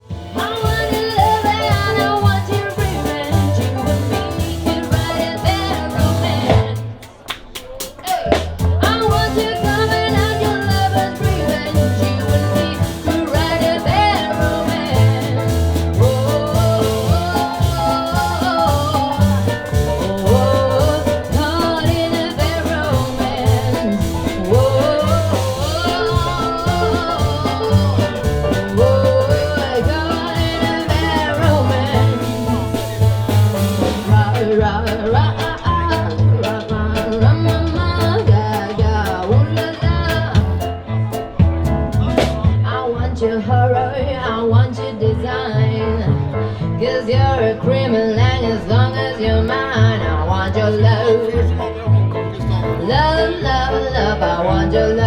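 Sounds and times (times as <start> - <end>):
up-tempo song: 0.0 - 55.0.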